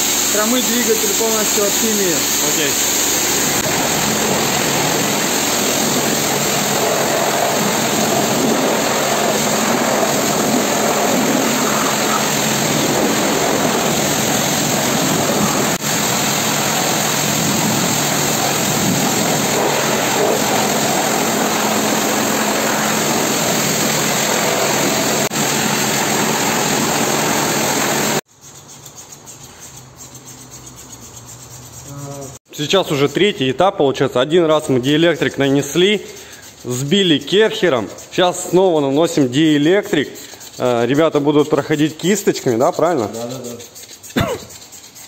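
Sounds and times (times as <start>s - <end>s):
pressure washer spraying water: 0.0s - 32.4s, 35.4s - 45.0s.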